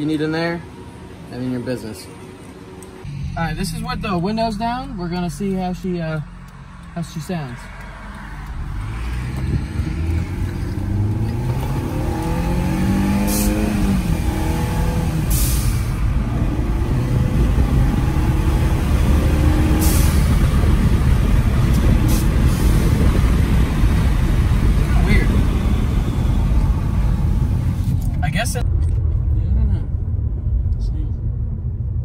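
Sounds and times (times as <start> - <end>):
car engine accelerating: 2.8 - 30.8.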